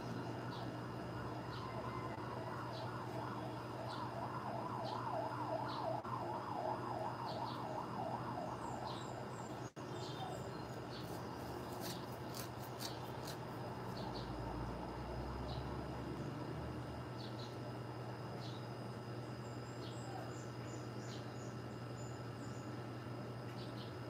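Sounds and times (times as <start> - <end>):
distant wavering siren: 0.0 - 24.0.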